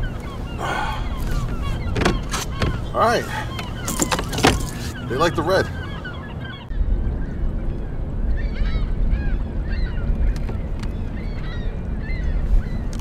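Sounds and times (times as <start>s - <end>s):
water bird calls: 0.0s - 13.0s
wind buffeting microphone: 0.0s - 13.0s.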